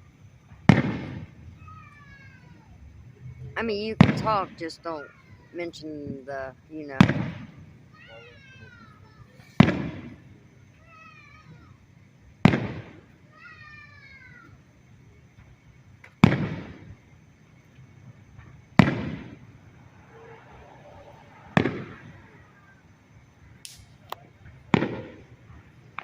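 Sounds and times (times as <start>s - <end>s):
fireworks bangs with rumbling echo: 0.0s - 2.7s, 3.6s - 26.0s.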